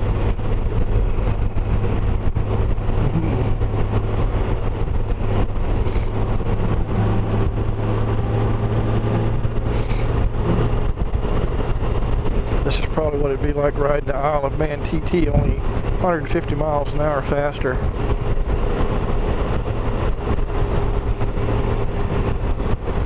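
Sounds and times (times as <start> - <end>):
motorcycle engine humming: 0.0 - 23.0.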